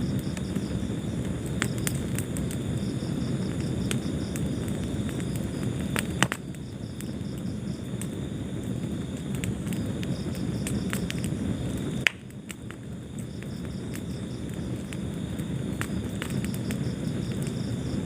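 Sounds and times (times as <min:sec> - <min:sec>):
fire crackling and snapping: 0:00.0 - 0:18.0
fire rumbling: 0:00.0 - 0:18.0
loud pop of fire: 0:00.0 - 0:18.0.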